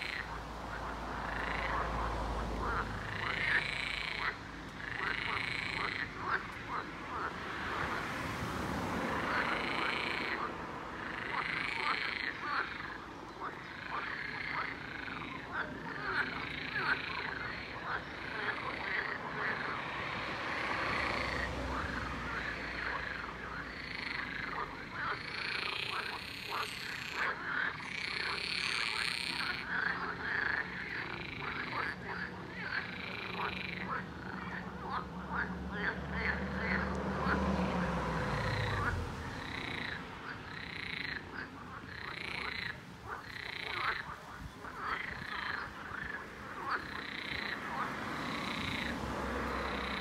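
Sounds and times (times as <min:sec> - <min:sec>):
frogs croaking in chorus: 0:00.0 - 0:50.0.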